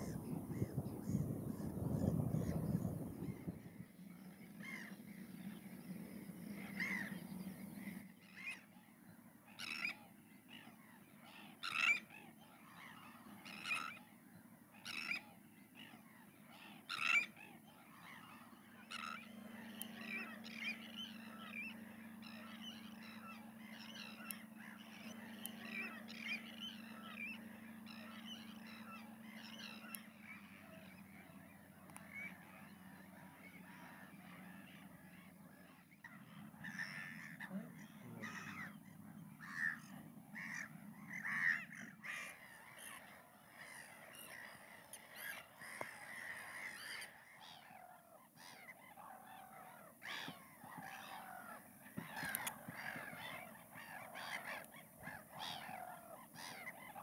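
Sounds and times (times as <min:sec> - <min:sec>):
harsh waterbird calls: 0:00.0 - 0:08.8, 0:09.5 - 0:14.1, 0:14.7 - 0:57.0
chatter of many birds: 0:00.0 - 0:57.0.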